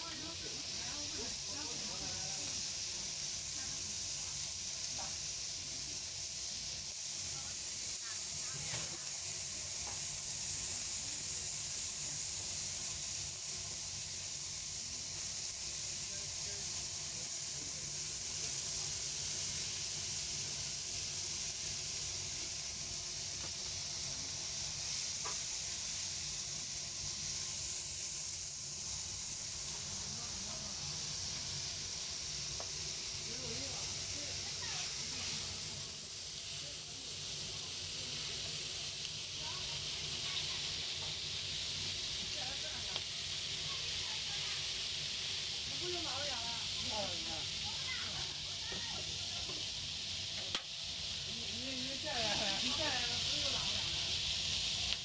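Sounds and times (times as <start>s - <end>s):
skewers sizzling on griddle: 0.0s - 55.0s.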